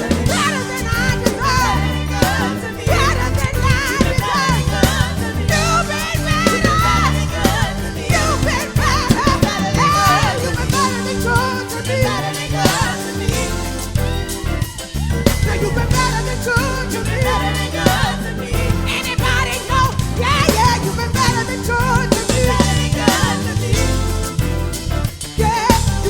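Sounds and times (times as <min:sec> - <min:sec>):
gospel band with bass and drums: 0:00.0 - 0:26.0.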